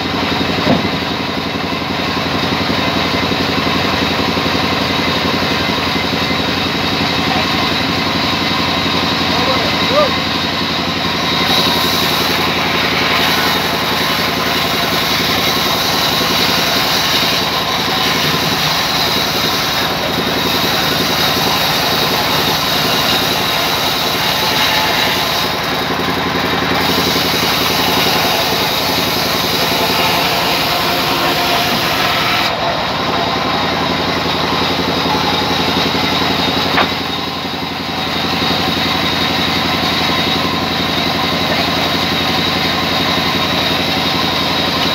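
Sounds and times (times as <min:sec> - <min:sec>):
band saw running: 0:00.0 - 0:44.9.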